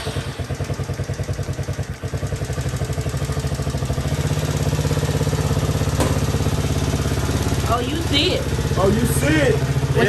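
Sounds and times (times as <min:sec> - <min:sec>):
four-stroke engine running: 0:00.0 - 0:10.0.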